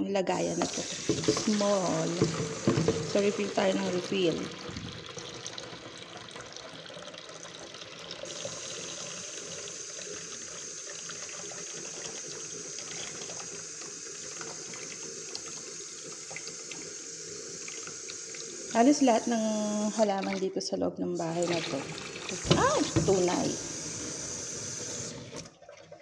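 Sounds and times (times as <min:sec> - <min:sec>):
faucet water filling watering can: 0:00.4 - 0:26.0.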